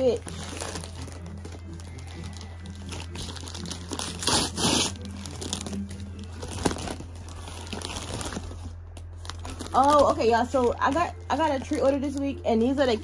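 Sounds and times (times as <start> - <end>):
paper mailer bag tearing and crinkling: 0.0 - 12.3.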